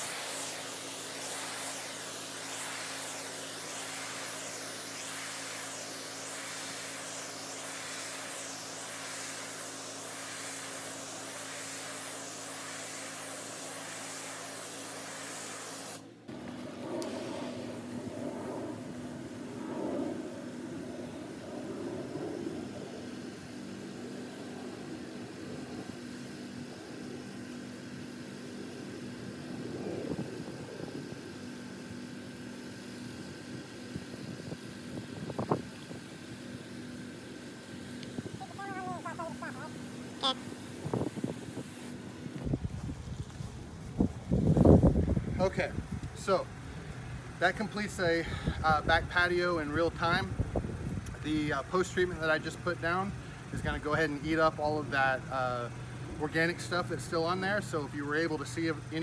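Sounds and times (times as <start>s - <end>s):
pressure washer spray hissing: 0.0s - 18.2s, 18.8s - 50.3s
engine and pump humming: 0.0s - 59.0s.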